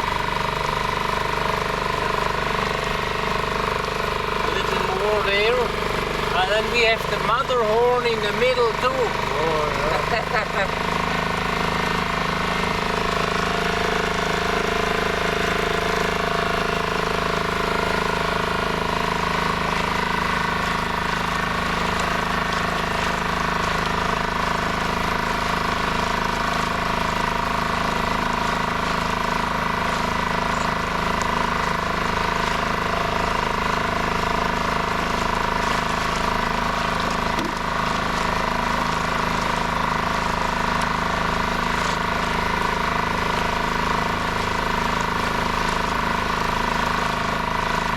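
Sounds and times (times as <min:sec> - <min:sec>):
outboard motor running: 0:00.0 - 0:47.9.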